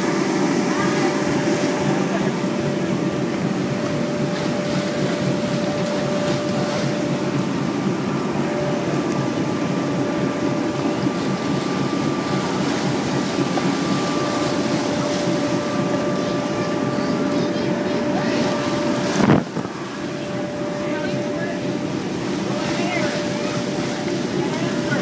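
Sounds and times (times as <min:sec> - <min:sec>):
motor drone with high whine: 0:00.0 - 0:25.0.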